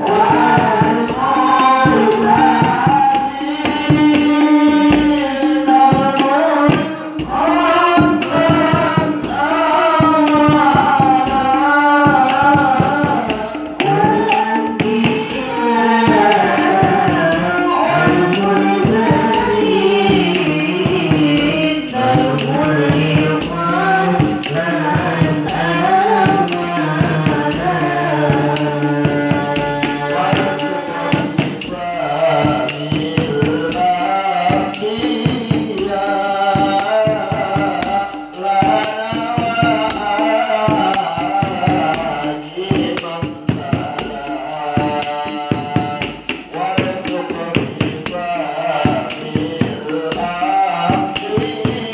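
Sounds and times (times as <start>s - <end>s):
cymbals jingling: 0.0s - 51.9s
hand drum beat: 0.0s - 51.9s
men singing into microphones: 0.0s - 51.9s.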